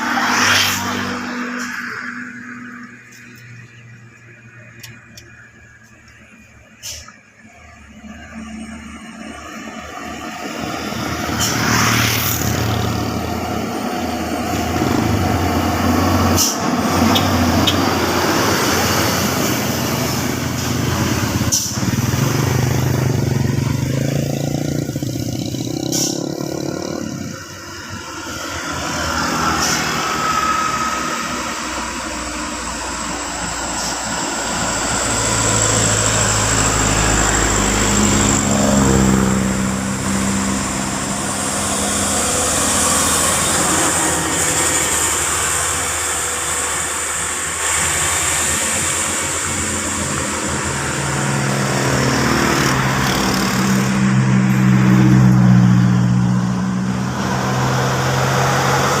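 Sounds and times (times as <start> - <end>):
traffic noise: 0.0 - 59.0
diesel truck engines running low: 0.8 - 59.0.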